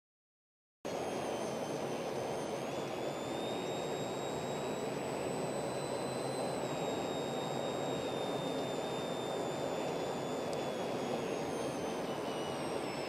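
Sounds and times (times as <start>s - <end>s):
thin high-pitched whine: 1.0s - 13.0s.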